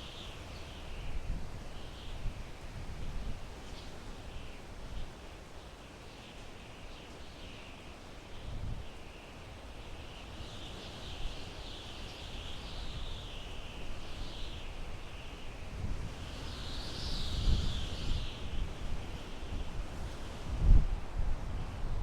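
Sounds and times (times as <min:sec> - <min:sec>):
wind blowing through pine trees: 0:00.0 - 0:22.0.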